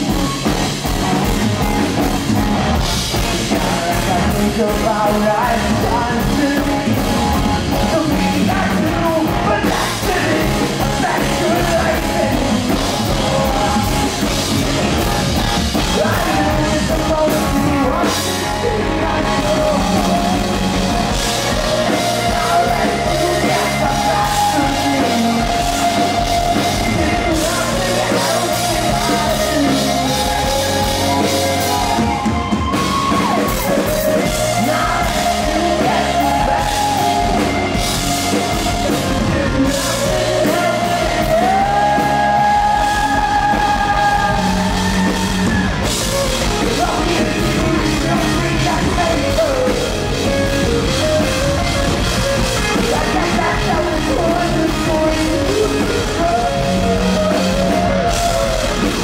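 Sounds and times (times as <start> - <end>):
bass guitar: 0.0 - 59.0
drum kit: 0.0 - 59.0
electric guitar: 0.0 - 59.0
man singing: 2.8 - 59.0.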